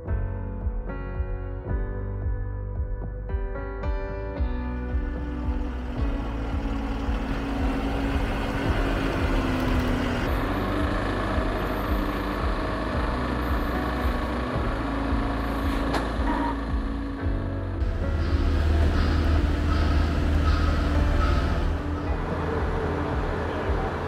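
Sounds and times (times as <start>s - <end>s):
truck diesel engine rumbling: 4.7s - 24.0s.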